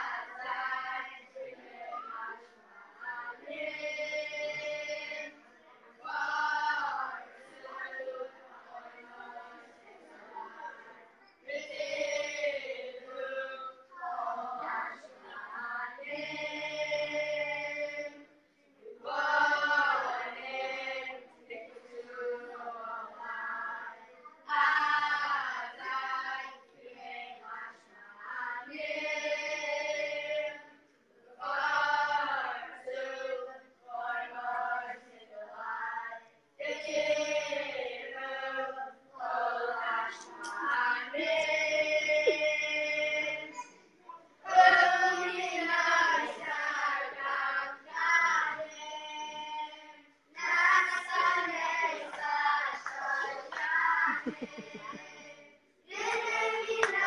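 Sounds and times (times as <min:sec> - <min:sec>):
boys' choir singing: 0:00.0 - 0:30.7, 0:31.3 - 0:43.6, 0:44.4 - 0:57.0.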